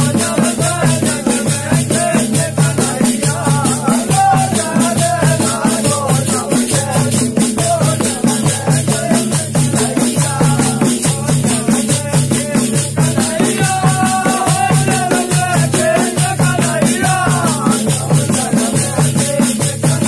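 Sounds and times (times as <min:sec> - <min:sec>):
barrel drum beating: 0:00.0 - 0:20.0
men singing: 0:00.0 - 0:20.0.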